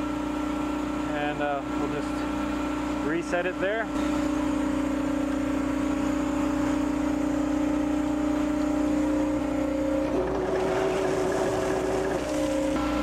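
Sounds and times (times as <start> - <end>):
concrete mixer truck engine drone: 0.0 - 13.0.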